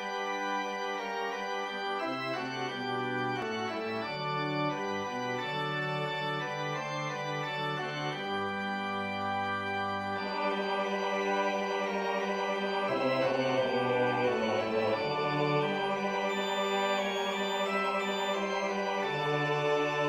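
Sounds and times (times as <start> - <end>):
organ-like chords: 0.0 - 20.0.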